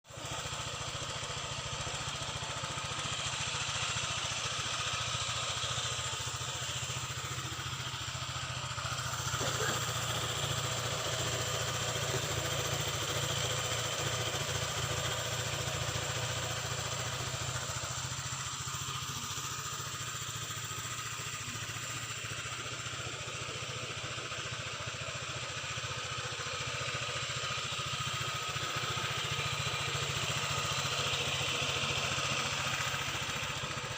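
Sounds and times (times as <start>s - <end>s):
scooter engine idling: 0.0s - 33.9s.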